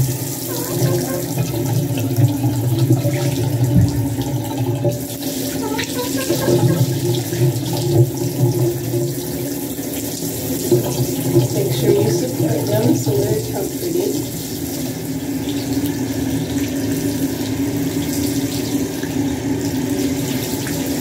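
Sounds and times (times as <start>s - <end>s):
shower spraying into bathtub: 0.0s - 21.0s.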